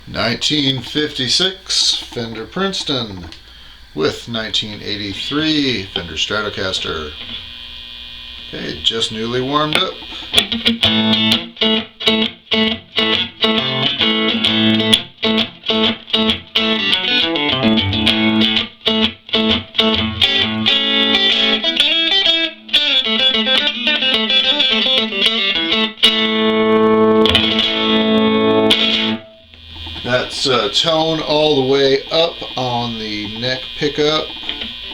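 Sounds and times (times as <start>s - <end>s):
electric guitar notes and chords: 0.0s - 34.9s.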